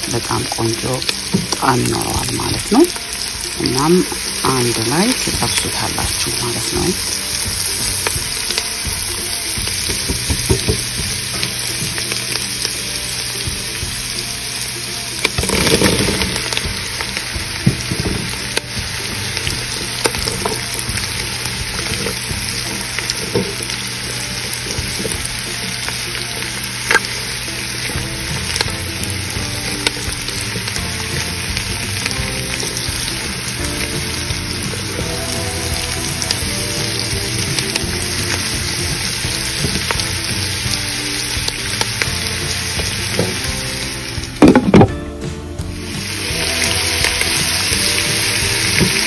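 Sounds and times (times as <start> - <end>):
vegetables sizzling in a pot: 0.0 - 49.0.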